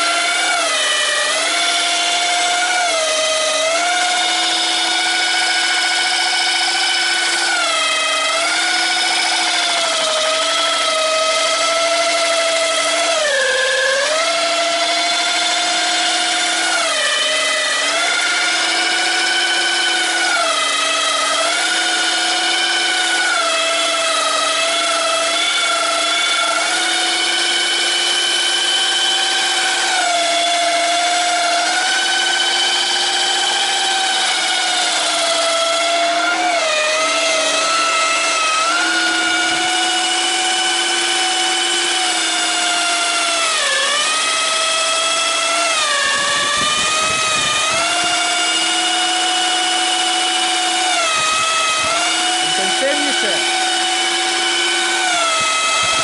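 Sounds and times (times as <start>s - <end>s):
electric drill whining: 0.0s - 56.0s.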